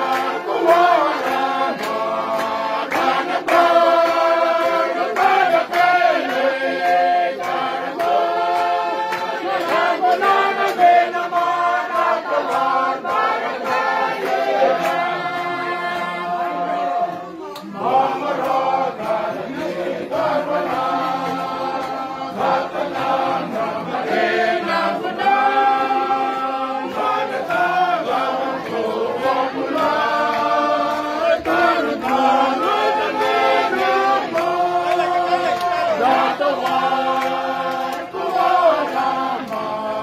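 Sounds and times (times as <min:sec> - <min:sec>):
choir singing in harmony: 0:00.0 - 0:40.0.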